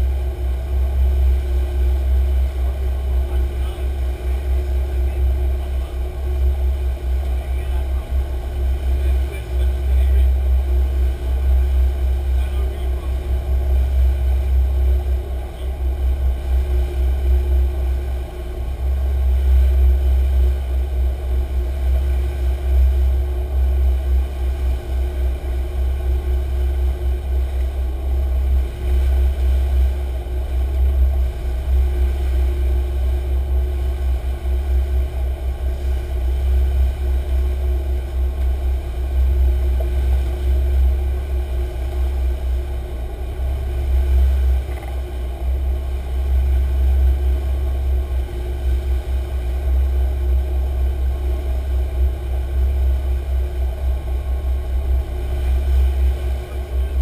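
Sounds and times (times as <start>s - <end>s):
boat engines droning: 0.0s - 57.0s.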